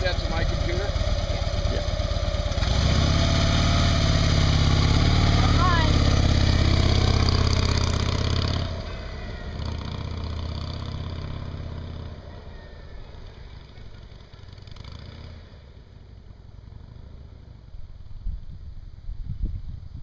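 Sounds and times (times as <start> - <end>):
motorcycle riding away: 0.0 - 19.6.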